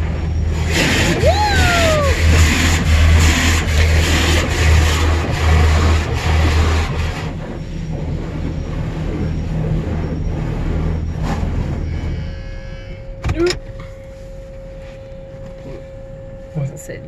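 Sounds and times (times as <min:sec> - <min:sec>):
car wash equipment rumbling: 0:00.0 - 0:17.0.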